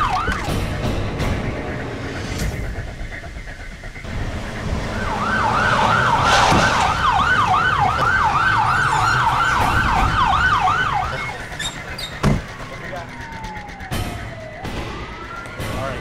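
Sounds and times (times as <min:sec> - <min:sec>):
police siren yelping: 0:00.0 - 0:01.1, 0:04.0 - 0:16.0
cars rumbling: 0:00.0 - 0:16.0.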